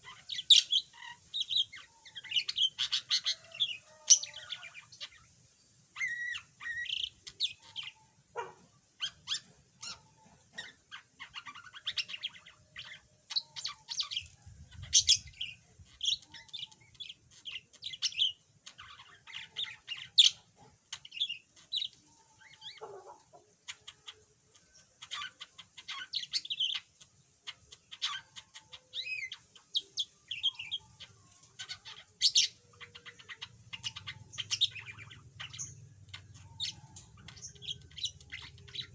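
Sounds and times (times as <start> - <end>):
budgerigar chirping and warbling: 0.0 - 5.2, 6.0 - 24.2, 25.0 - 38.9.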